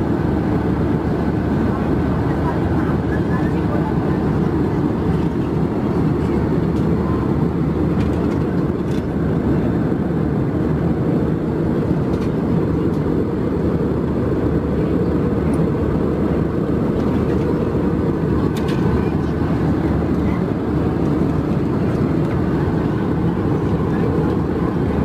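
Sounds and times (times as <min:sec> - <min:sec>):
airplane cabin noise in flight: 0:00.0 - 0:25.0.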